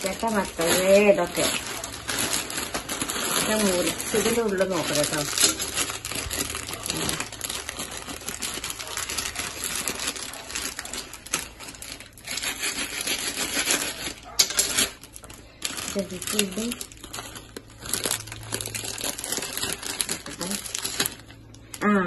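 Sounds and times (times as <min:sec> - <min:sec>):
plastic wrapper crinkling: 0:00.0 - 0:21.8
sachets tearing: 0:00.0 - 0:21.8.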